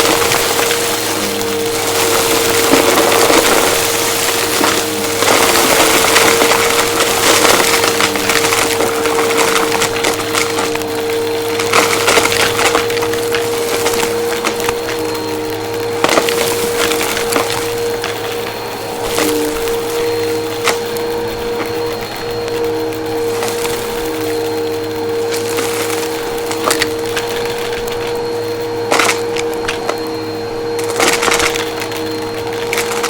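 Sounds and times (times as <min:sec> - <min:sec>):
debris crackling in vacuum: 0:00.0 - 0:33.0
vacuum cleaner motor whine: 0:00.0 - 0:33.0.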